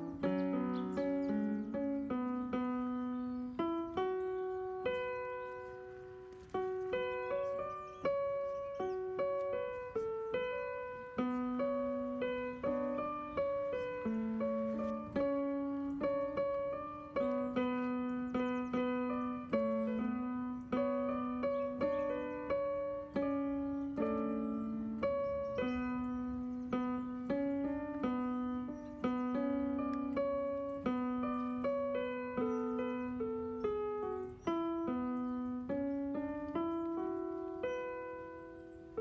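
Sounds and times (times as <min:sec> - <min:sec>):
electronic keyboard piano melody: 0:00.0 - 0:39.0.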